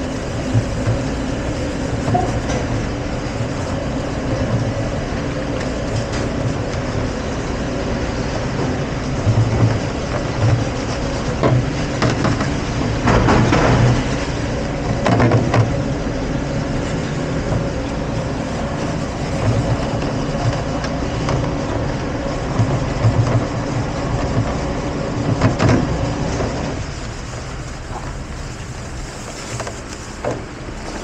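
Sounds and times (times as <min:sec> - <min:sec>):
dishwashing machine humming: 0:00.0 - 0:31.0.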